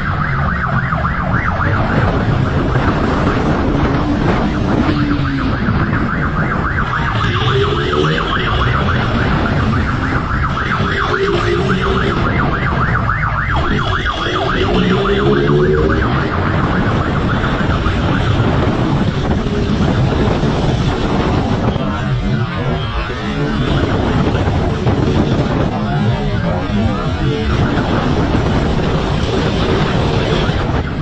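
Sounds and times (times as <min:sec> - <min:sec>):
motorcycle engines revving: 0:00.0 - 0:31.0
wind rush on microphone: 0:00.0 - 0:31.0.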